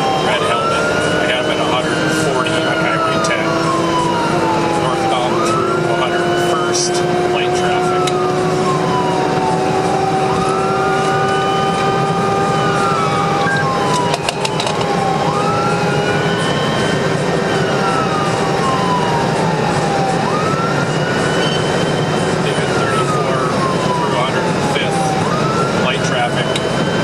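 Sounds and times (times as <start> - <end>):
engine and road noise: 0.0 - 27.0
police siren wailing: 0.0 - 27.0.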